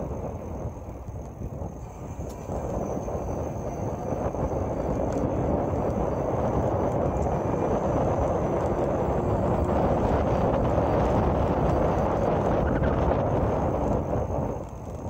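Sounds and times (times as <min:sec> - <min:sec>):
electric bike tyre noise: 0:00.0 - 0:15.0.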